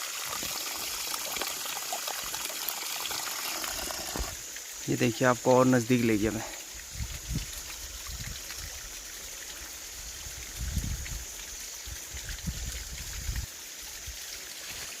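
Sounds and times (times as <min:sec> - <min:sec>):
spring water trickling: 0:00.0 - 0:15.0.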